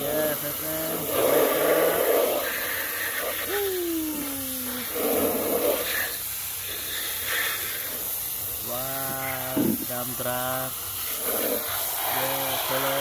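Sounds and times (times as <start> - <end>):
water jet hissing and splashing: 0.0 - 13.0.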